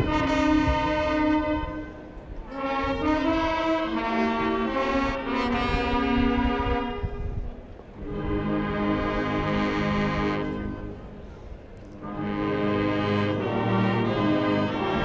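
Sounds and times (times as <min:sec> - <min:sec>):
brass band playing chords: 0:00.0 - 0:15.0.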